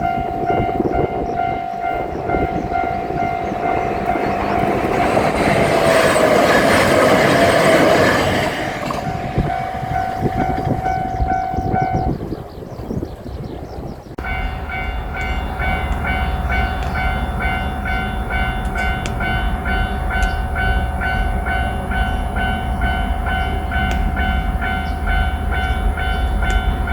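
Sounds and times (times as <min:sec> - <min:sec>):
level crossing alarm dinging: 0:00.0 - 0:12.2, 0:14.2 - 0:26.9
train rumble and wheel noise: 0:00.0 - 0:26.9.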